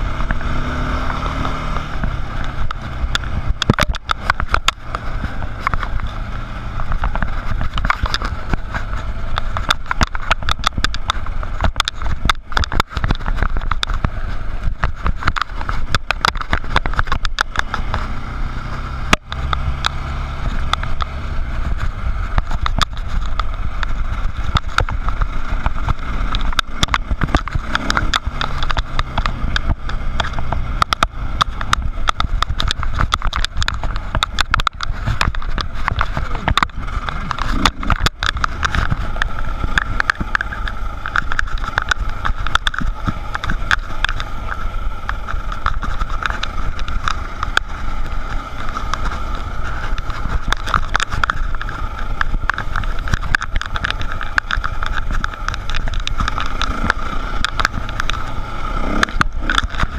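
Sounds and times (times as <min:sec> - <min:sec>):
dirt bike engine running: 0:00.0 - 0:59.9
sharp clicks and knocks: 0:00.0 - 0:59.9.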